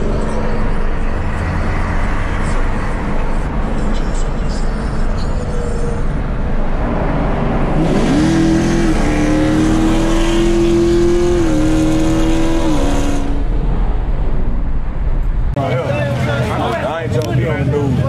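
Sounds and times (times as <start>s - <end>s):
car engine at full throttle: 0.0s - 15.6s.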